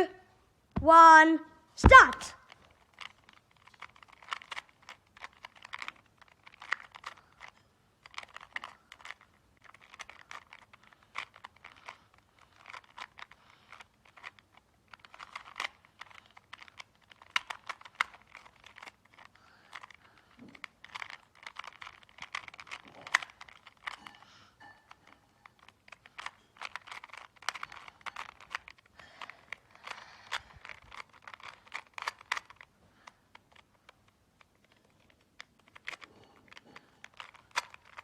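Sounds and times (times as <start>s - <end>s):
plastic puzzle cube clicking: 1.9s - 24.2s, 24.9s - 38.0s.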